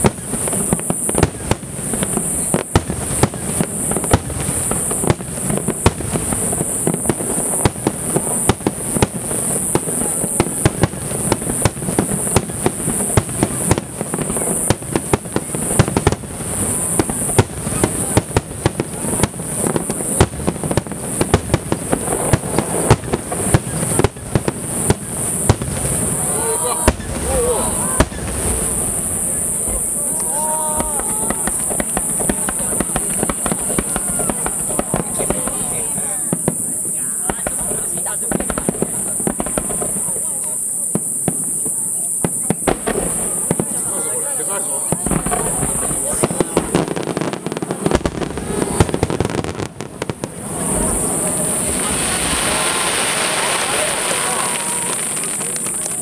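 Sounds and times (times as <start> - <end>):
fireworks bursting and crackling: 0.0 - 56.0
high-pitched hiss: 0.0 - 56.0.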